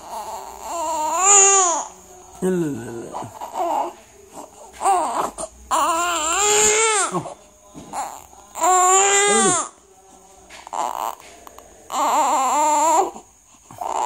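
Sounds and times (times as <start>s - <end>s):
baby crying: 0.0s - 1.9s, 2.9s - 9.7s, 10.7s - 11.3s, 11.9s - 14.0s.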